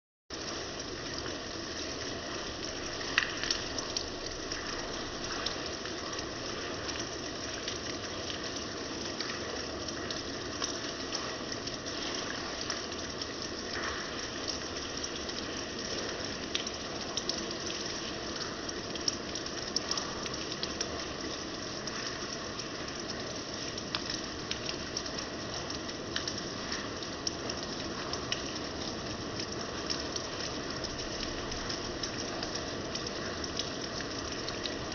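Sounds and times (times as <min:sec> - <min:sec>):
steady rain: 0:00.3 - 0:34.9.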